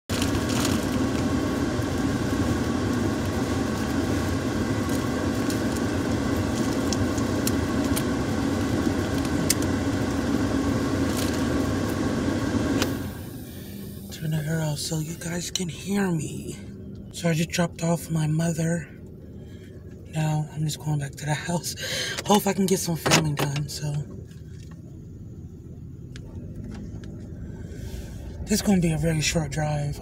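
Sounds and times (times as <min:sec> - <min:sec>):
car running heard inside cabin: 0:00.1 - 0:30.0.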